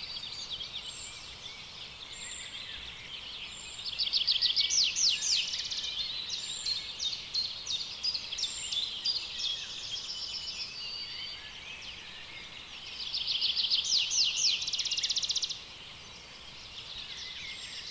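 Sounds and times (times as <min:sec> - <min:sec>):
birds singing whistled notes: 0:00.0 - 0:17.9.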